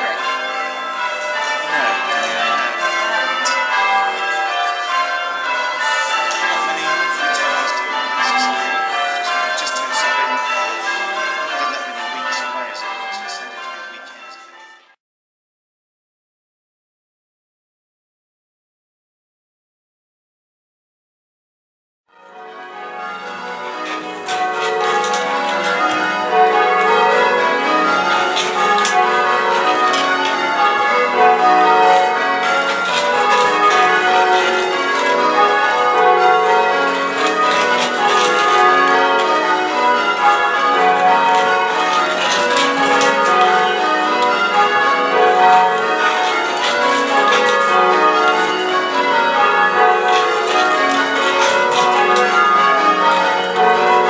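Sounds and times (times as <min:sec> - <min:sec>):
church bells change ringing: 0:00.0 - 0:15.0, 0:22.2 - 0:54.0.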